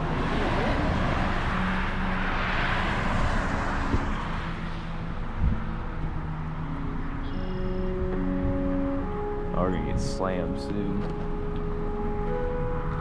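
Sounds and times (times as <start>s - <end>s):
vehicle passing on road: 0.0s - 13.0s.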